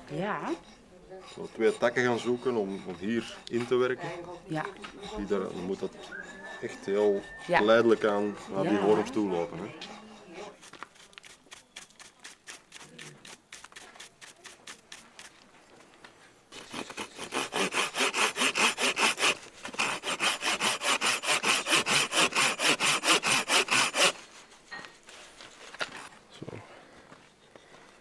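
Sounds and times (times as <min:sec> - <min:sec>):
hand saw cutting wood: 0:00.2 - 0:15.3, 0:16.5 - 0:24.4.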